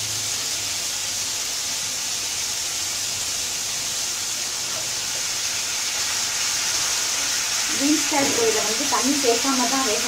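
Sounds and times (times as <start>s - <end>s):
vegetables sizzling in pans: 0.0s - 10.0s.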